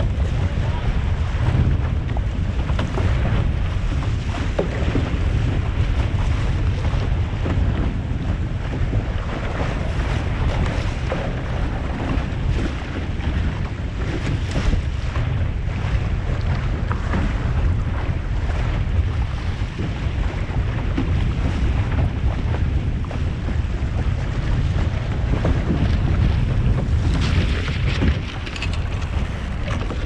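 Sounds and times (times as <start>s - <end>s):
water rushing past hull: 0.0s - 30.0s
wind buffeting microphone: 0.0s - 30.0s.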